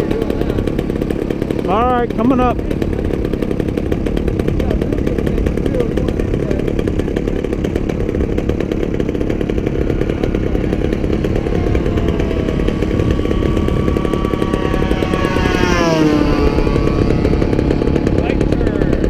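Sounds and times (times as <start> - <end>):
model plane engine buzzing: 0.0 - 19.0
low rumble: 2.5 - 19.0.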